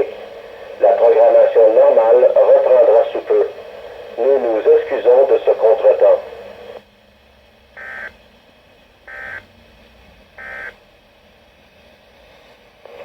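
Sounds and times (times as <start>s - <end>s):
faint radio hiss: 0.0s - 13.0s.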